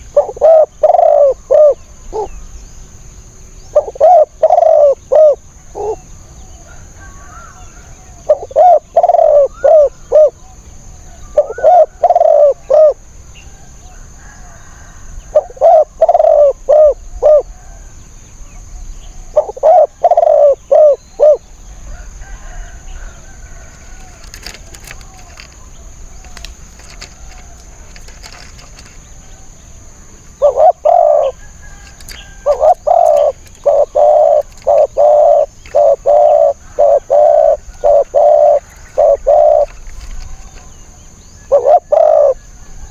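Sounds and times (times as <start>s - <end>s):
doves cooing: 0.0s - 2.6s, 3.6s - 42.9s.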